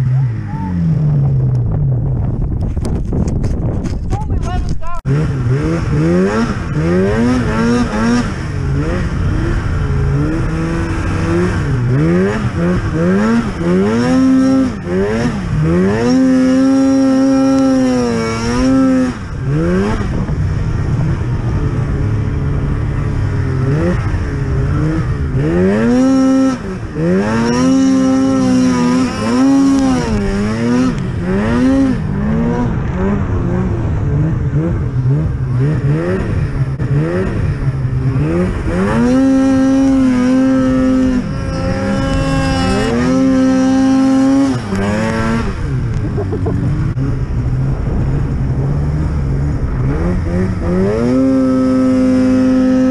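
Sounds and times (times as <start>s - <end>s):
snowmobile engine revving: 4.8s - 52.9s.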